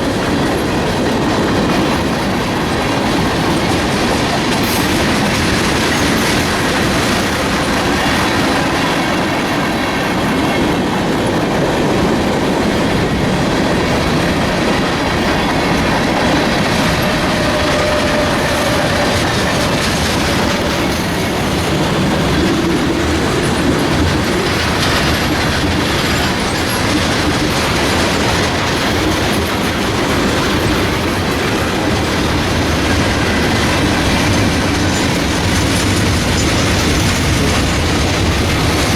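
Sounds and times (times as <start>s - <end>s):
freight train cars rumbling: 0.0s - 38.9s
wheels clacking over rail joints: 0.0s - 38.9s.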